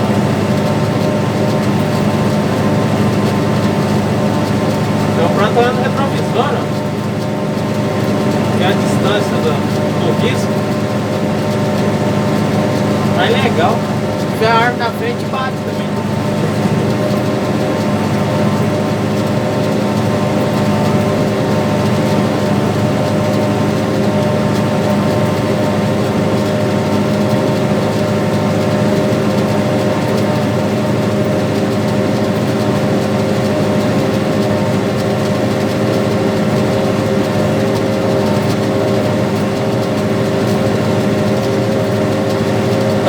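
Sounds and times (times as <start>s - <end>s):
tractor diesel engine droning: 0.0s - 43.0s.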